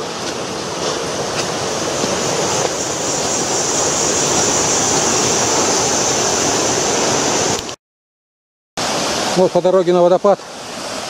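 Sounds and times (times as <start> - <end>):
river rushing: 0.0 - 7.8, 8.8 - 11.0.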